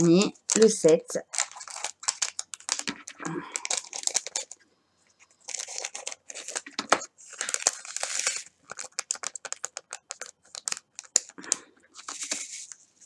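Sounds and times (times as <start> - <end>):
plastic bag crinkling: 0.0 - 4.6, 5.2 - 12.8.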